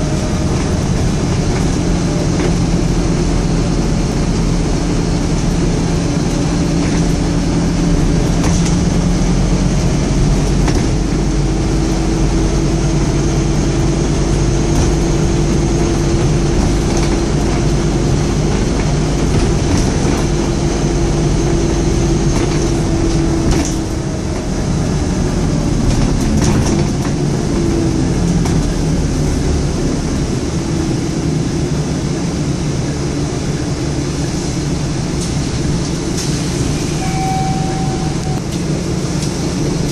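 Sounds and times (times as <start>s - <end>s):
bus engine droning: 0.0s - 39.9s
steady whine: 0.0s - 39.9s.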